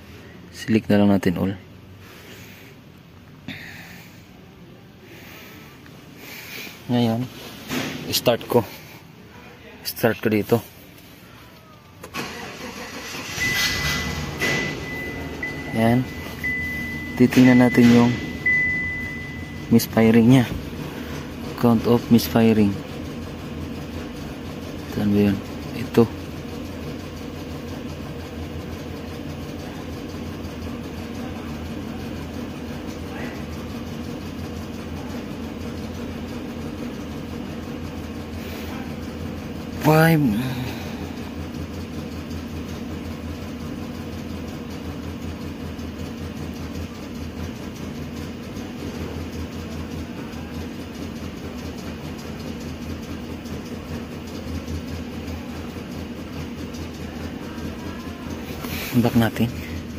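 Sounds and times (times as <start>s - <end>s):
engine idling with a misfire: 0.0s - 59.9s.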